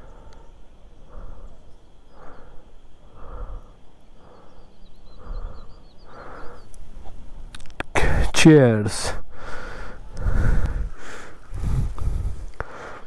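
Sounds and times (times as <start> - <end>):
soft breathing: 0.0 - 7.2, 9.2 - 13.0.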